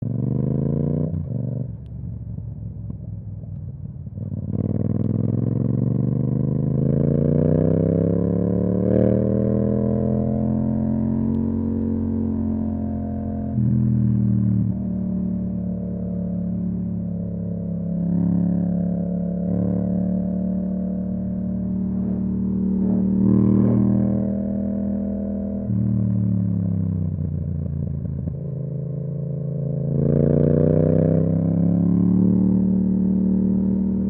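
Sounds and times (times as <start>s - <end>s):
motorcycle engine revving: 4.2s - 34.0s.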